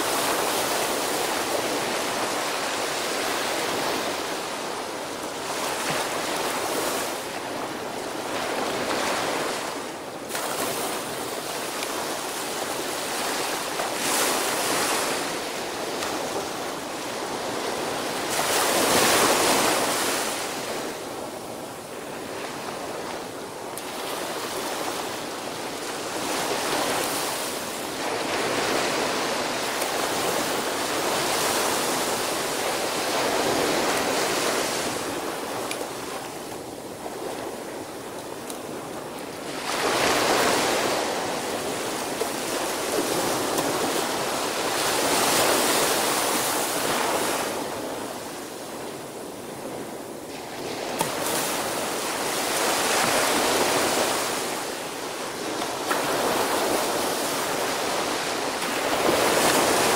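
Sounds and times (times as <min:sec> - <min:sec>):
small waves breaking on beach: 0:00.0 - 0:59.9.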